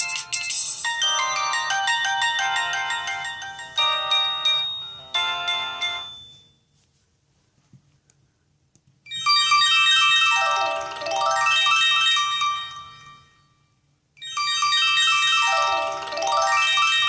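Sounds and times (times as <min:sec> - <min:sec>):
synthesized phone ringtone: 0:00.0 - 0:06.6, 0:09.1 - 0:13.4, 0:14.2 - 0:17.0.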